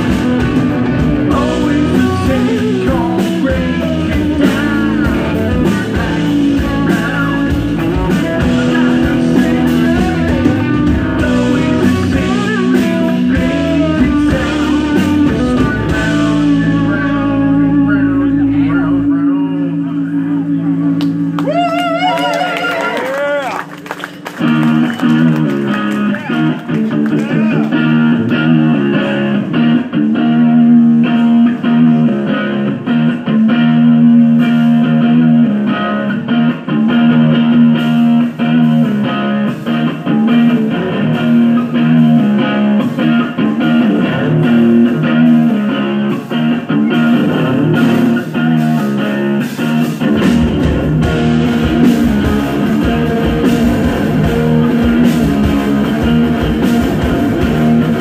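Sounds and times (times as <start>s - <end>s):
deep bass: 0.0s - 23.4s, 24.3s - 58.0s
electric guitar riff: 0.0s - 58.0s.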